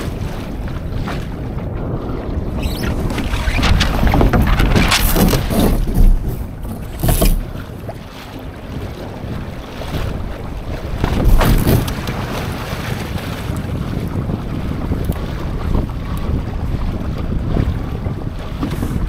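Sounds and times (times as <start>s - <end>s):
water washing along hull: 0.0s - 19.0s
wind buffeting microphone: 0.0s - 19.0s.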